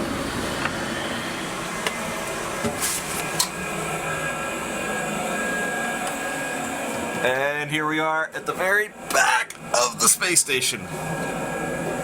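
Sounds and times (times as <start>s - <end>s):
ventilation fans humming: 0.0s - 12.0s.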